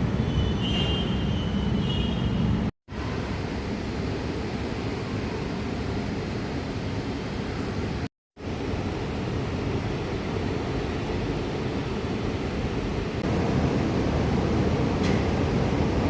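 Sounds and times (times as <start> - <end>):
vehicle rumble and hiss: 0.0 - 16.0.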